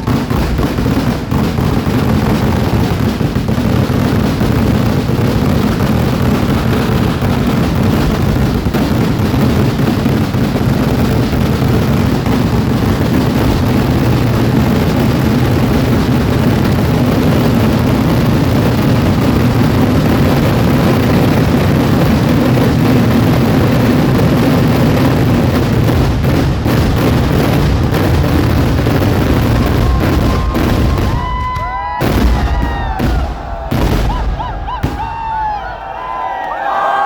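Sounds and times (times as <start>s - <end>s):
fireworks explosions rumbling: 0.0s - 37.0s.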